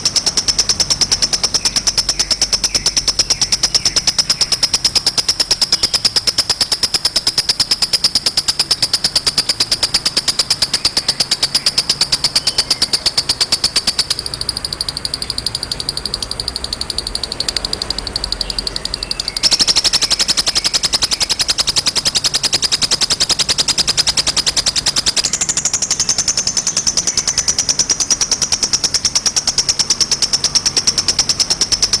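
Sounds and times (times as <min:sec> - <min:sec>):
sunbird singing a high trill: 0:00.0 - 0:32.0.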